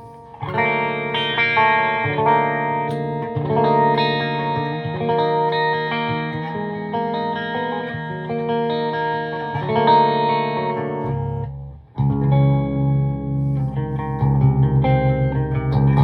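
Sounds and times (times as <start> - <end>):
electric guitar notes and chords: 0.0 - 16.0
low electric guitar riff: 0.0 - 16.0.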